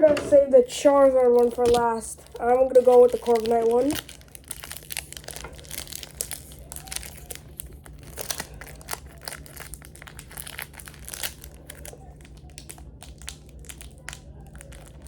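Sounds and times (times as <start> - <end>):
foil wrapper crinkling: 0.5 - 15.0.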